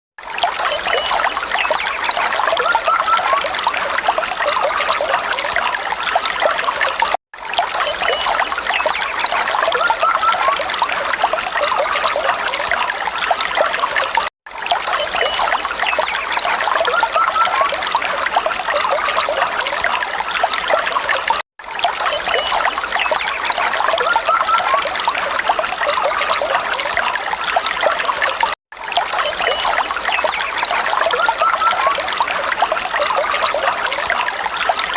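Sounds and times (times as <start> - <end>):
water trickling and splashing: 0.2 - 34.9.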